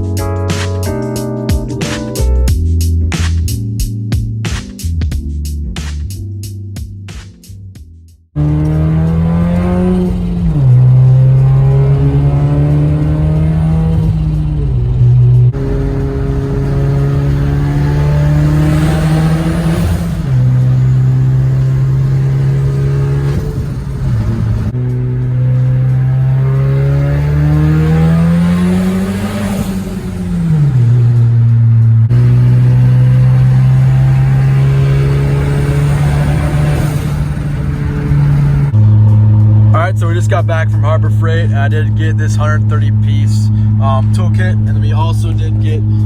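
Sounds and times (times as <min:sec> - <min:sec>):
car engine accelerating through gears: 0:08.4 - 0:46.0.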